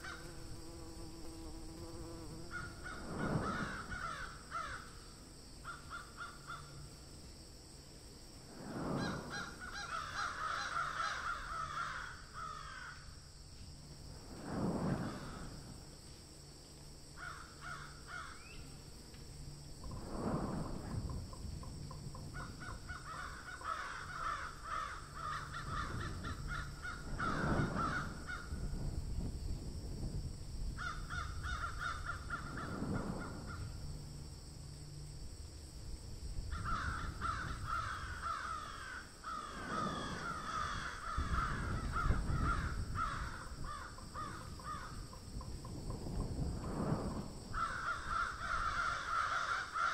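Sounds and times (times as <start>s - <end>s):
steady high hiss: 0.0s - 49.9s.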